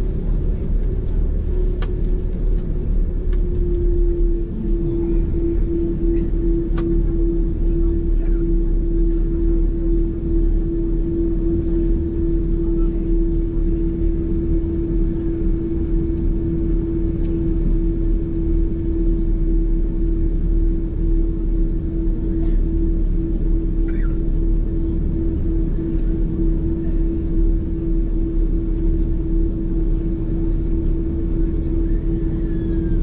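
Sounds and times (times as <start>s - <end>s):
airliner cabin hum: 0.0s - 33.0s.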